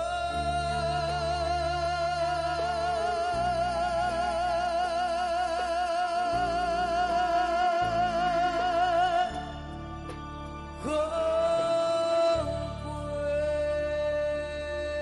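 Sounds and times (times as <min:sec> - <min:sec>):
man singing long vibrato note: 0:00.0 - 0:09.8, 0:10.8 - 0:15.0.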